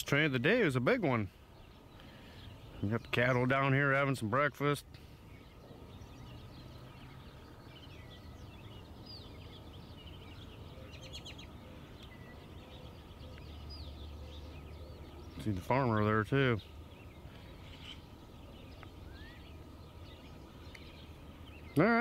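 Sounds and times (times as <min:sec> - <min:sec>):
bird chirps and calls: 0:00.0 - 0:22.0
low steady hum: 0:00.0 - 0:22.0.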